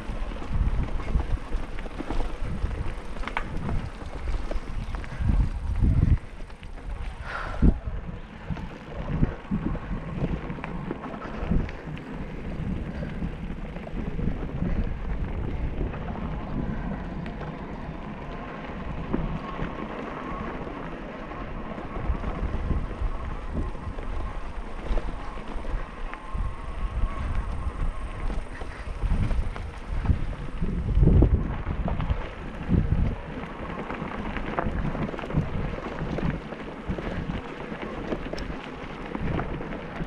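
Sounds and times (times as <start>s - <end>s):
bicycle rattling on dirt trail: 0.0s - 40.0s
wind buffeting microphone: 0.0s - 40.0s.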